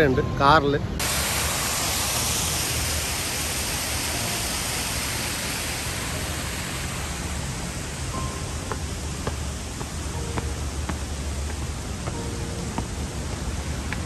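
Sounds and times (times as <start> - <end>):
waterfall rushing: 0.9 - 14.0.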